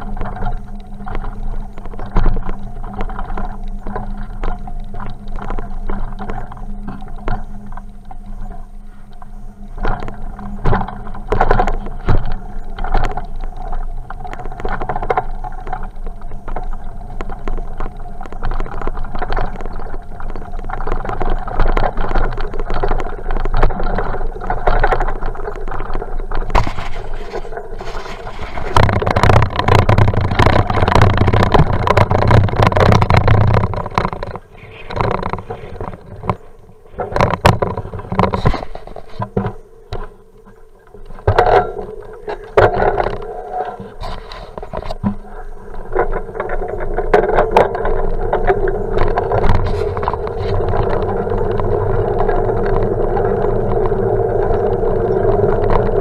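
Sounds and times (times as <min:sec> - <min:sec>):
bike rattling and knocking: 0:00.0 - 0:07.8, 0:09.7 - 0:40.2, 0:41.0 - 0:56.0
bicycle tyres rolling on rough surface: 0:00.0 - 0:56.0.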